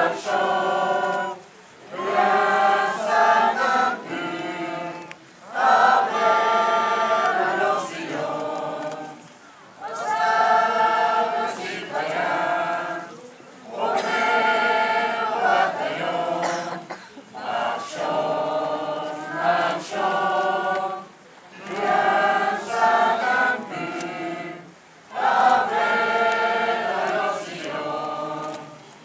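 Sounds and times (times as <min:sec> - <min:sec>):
group of people singing: 0:00.0 - 0:29.0.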